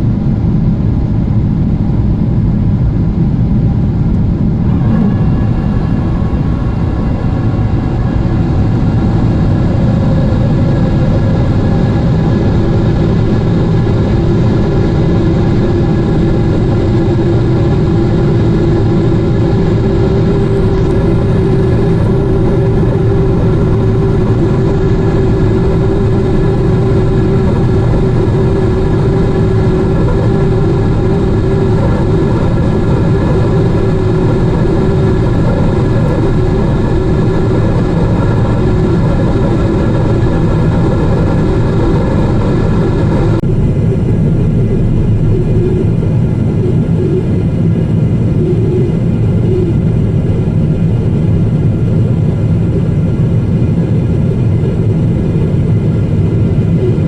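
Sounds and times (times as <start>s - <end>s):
airplane cabin engine rush: 0.0s - 57.0s
steady hums: 0.0s - 57.0s.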